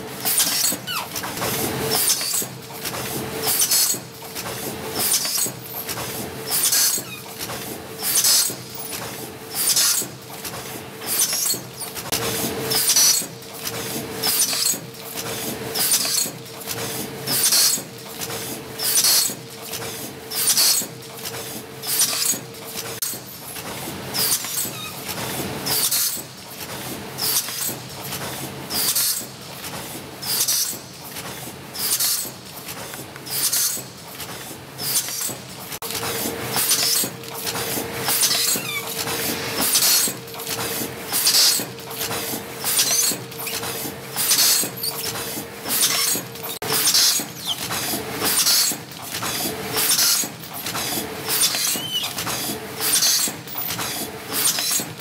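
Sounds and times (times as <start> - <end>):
packing machine hiss: 1.5 - 22.4, 23.1 - 55.0.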